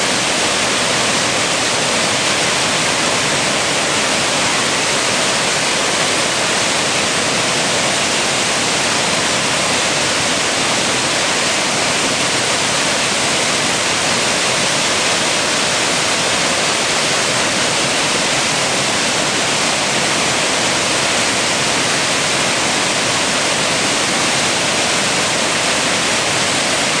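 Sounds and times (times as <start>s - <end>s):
water rushing through spillway: 0.0s - 27.0s.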